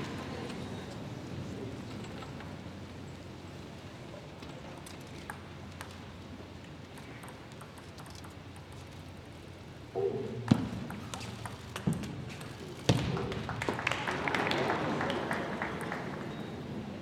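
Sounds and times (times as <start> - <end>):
steady hall hum: 0.0 - 17.0.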